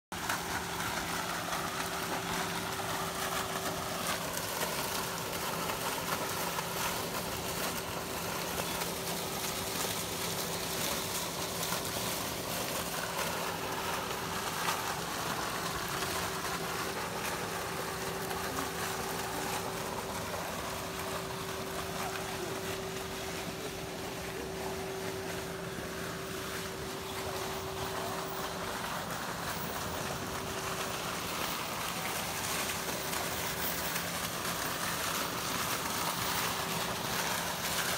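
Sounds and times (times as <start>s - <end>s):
constant low hum: 0.1s - 37.9s
fountain splashing: 0.1s - 37.9s.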